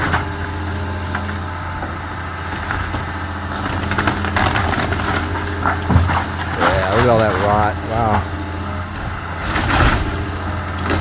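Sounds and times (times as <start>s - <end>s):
demolition machine engine humming: 0.0s - 11.0s.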